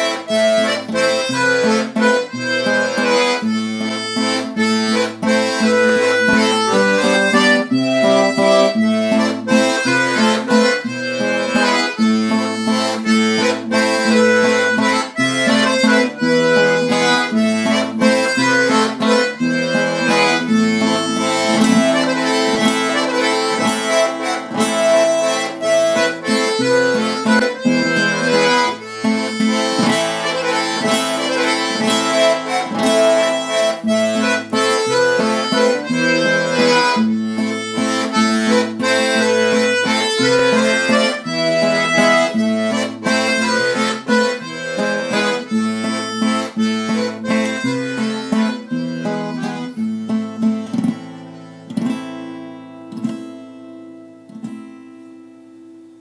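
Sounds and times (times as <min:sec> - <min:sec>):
free-reed instrument folk melody: 0:00.0 - 0:56.0.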